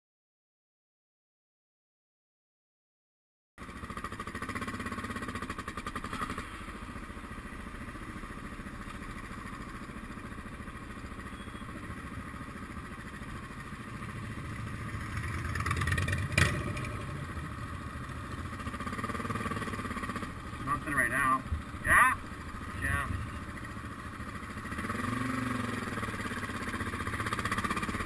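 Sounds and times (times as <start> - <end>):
motorcycle engine running: 3.6 - 28.0.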